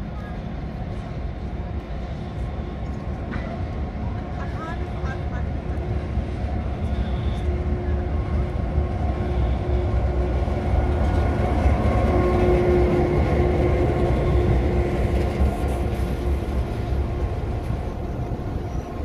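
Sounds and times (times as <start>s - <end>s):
carriages rolling past: 0.0s - 19.0s
diesel locomotive engine rumble: 0.0s - 19.0s.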